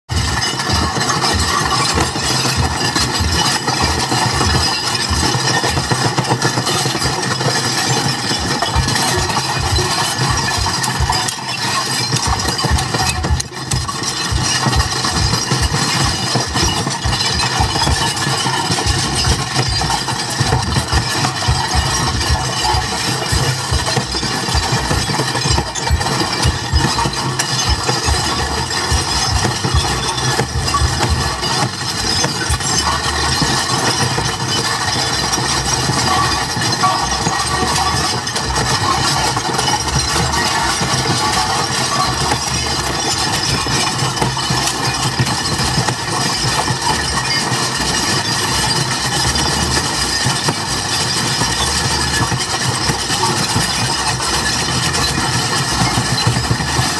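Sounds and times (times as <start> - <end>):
droning rattling noise: 0.1 - 56.9
rapid throbbing: 0.1 - 56.9.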